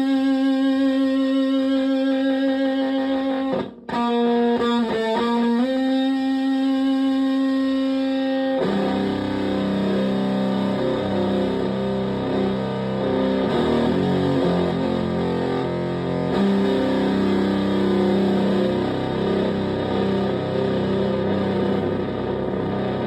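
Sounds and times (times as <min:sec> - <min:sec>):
distorted electric guitar: 0:00.0 - 0:23.0.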